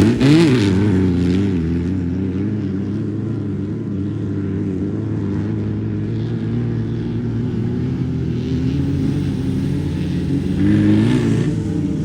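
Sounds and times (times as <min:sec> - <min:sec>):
race car engine running: 0:00.0 - 0:12.0.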